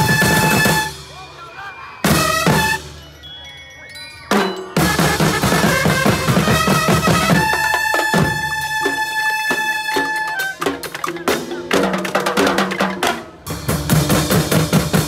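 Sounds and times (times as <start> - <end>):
percussion band playing: 0.0 - 15.0.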